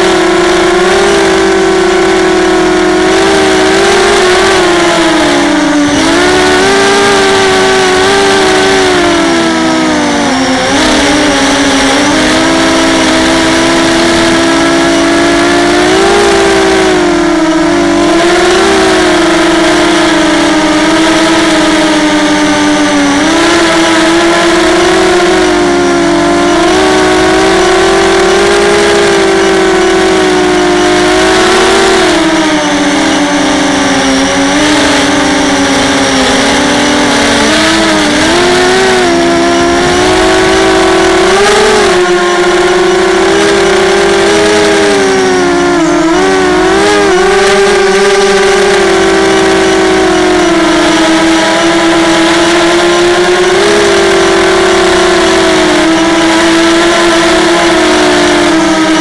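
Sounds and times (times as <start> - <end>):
quadcopter motors buzzing: 0.0 - 59.0.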